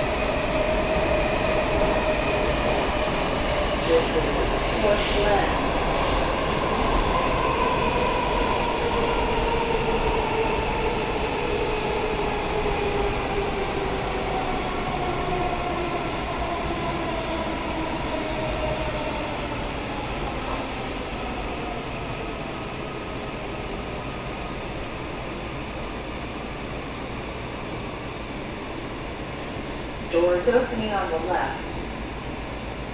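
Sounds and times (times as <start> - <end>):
subway train rumbling in tunnel: 0.0 - 32.9.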